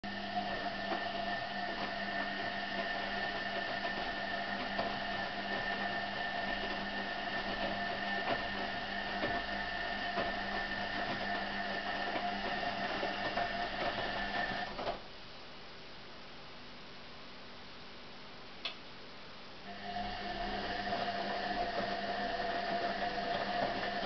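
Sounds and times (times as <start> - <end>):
washing machine whine: 0.0 - 15.1, 19.6 - 24.0
quiet steady hum: 0.0 - 24.0.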